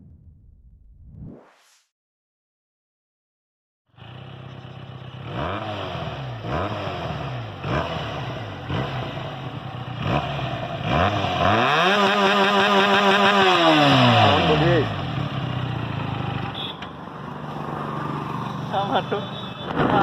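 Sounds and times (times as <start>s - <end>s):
motorcycle engine revving: 4.0s - 20.0s.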